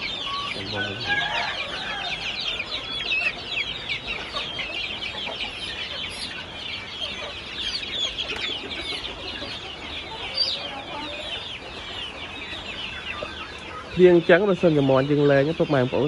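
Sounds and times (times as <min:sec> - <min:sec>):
chickens peeping: 0:00.0 - 0:16.0.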